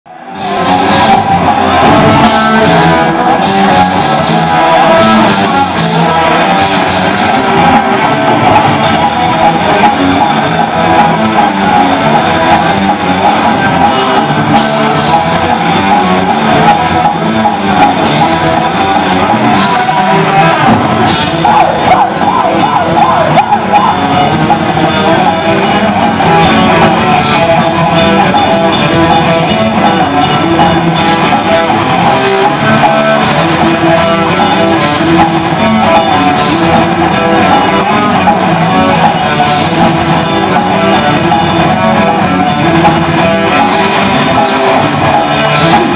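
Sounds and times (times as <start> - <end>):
metal band playing: 0.1 - 45.9.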